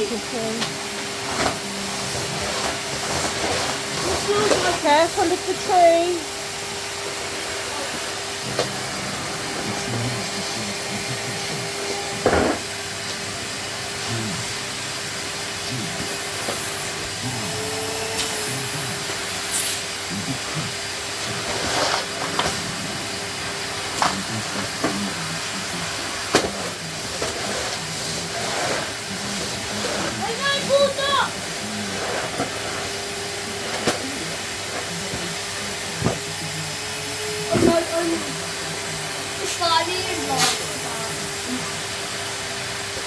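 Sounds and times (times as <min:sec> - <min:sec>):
vacuum cleaner motor hum: 0:00.0 - 0:43.0.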